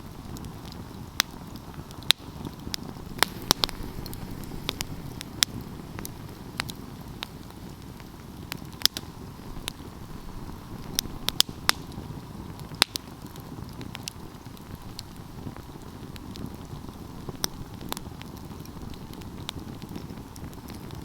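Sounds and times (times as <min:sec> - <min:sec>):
fire crackling and popping: 0:00.0 - 0:21.0
wood fire burning: 0:00.0 - 0:21.0.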